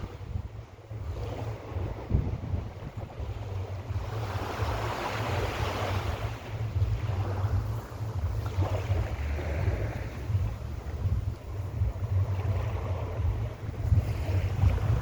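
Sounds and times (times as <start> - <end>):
waves breaking on beach: 0.0 - 15.0
wind rumbling on microphone: 0.0 - 15.0.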